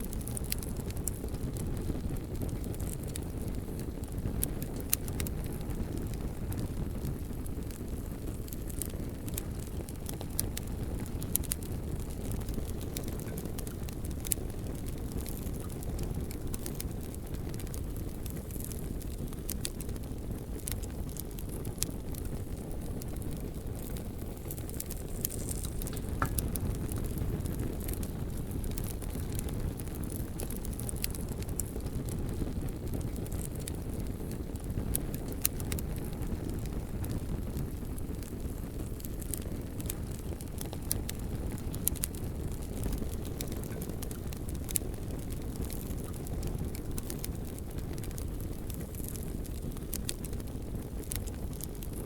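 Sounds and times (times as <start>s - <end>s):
bonfire burning: 0.0s - 52.0s.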